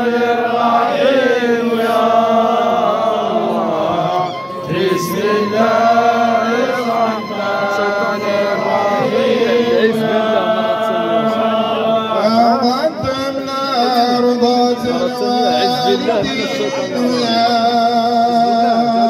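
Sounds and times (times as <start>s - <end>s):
man chanting through loudspeakers: 2.3s - 19.0s.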